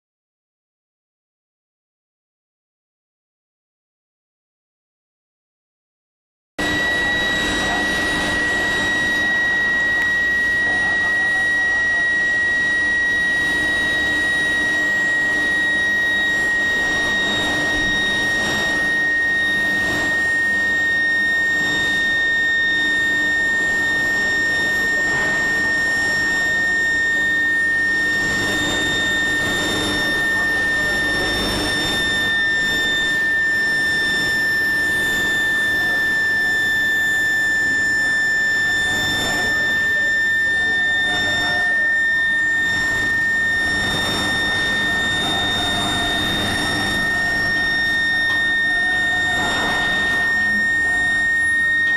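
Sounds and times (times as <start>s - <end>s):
high-pitched electrical whine: 6.6s - 51.9s.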